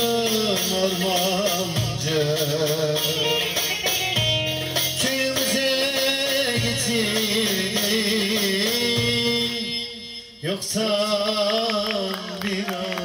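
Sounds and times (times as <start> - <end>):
live dance music from band: 0.0 - 13.0.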